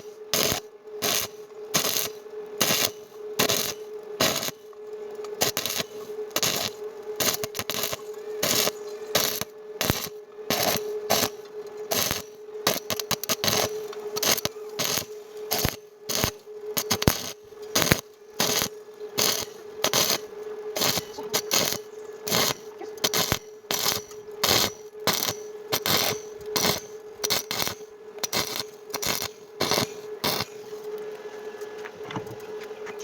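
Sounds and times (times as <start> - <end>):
welding arc bursts: 0.0 - 31.0
steady hum: 0.0 - 33.0.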